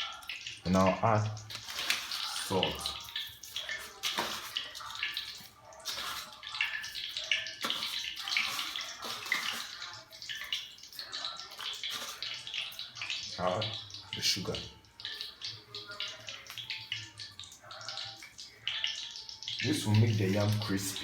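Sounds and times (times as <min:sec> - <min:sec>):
wet rustling and splashing in bowl: 0:01.4 - 0:18.9.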